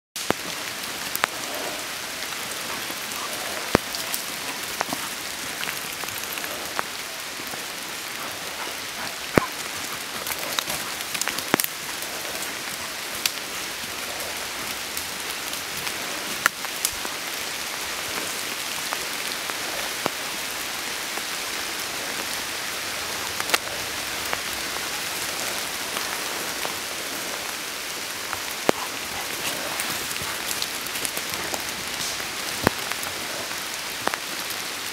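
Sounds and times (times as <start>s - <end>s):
rain on leaves: 0.2s - 34.9s.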